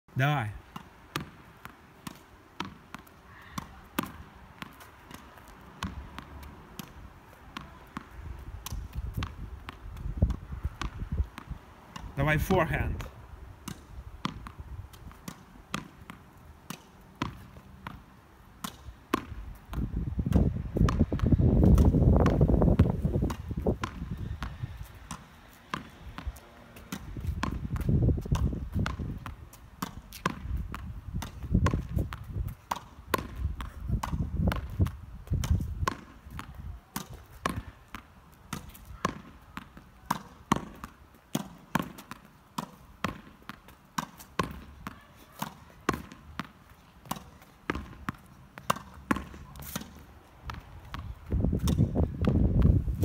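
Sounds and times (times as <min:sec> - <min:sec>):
ball bouncing on paving stones: 0:00.6 - 0:53.0
racket hitting tennis ball: 0:00.6 - 0:53.0
tennis ball hitting brick wall: 0:00.6 - 0:53.0.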